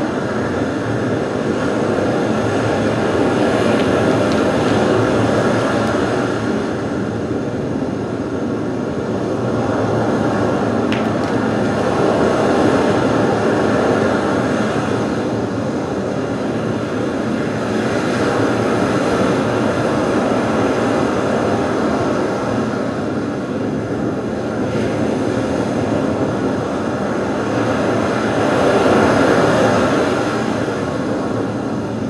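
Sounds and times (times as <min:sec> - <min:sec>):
dense noise drone: 0:00.0 - 0:32.0.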